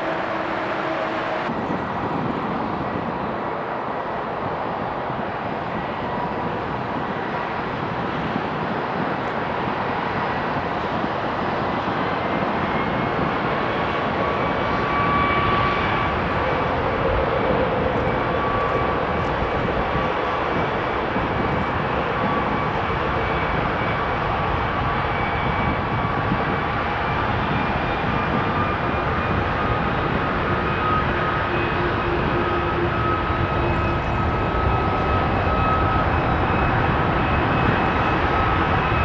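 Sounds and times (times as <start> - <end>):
jet engine running with whine: 0.0 - 39.0.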